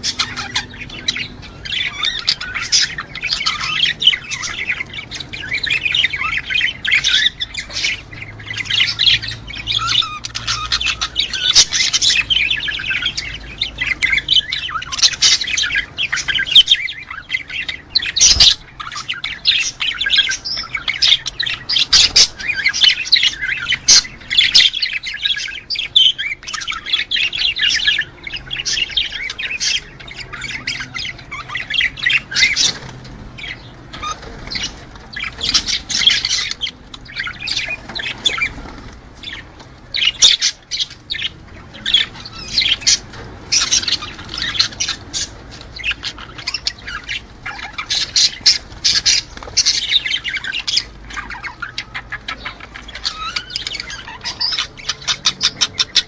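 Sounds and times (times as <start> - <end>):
budgerigar warbling: 0.0 - 32.8, 39.2 - 56.0.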